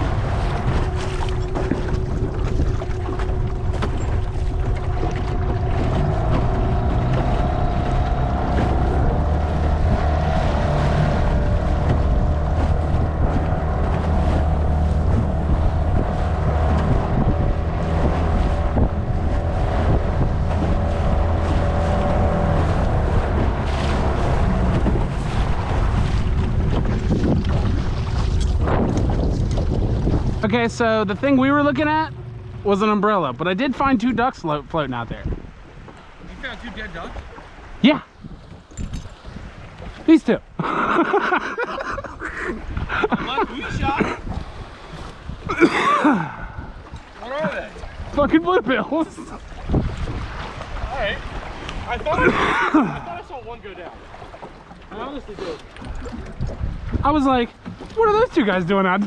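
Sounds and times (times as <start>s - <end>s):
outboard motor running: 0.0s - 59.0s
wind buffeting microphone: 0.0s - 59.0s.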